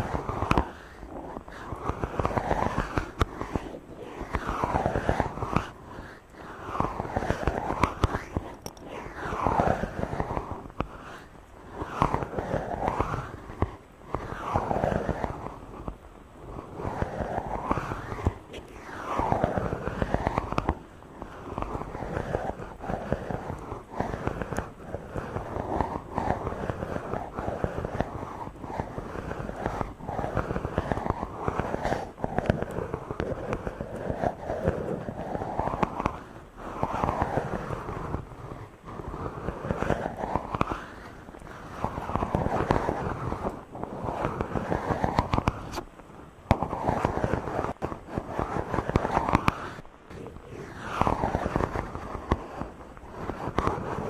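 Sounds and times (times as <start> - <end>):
fingers rubbing on microphone: 0.0 - 54.0.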